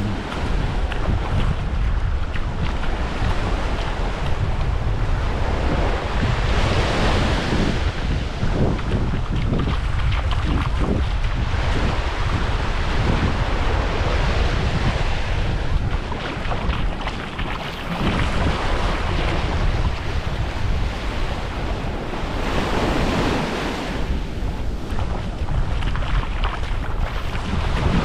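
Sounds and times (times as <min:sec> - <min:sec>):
small waves washing on beach: 0:00.0 - 0:28.0
wind buffeting microphone: 0:00.0 - 0:28.0.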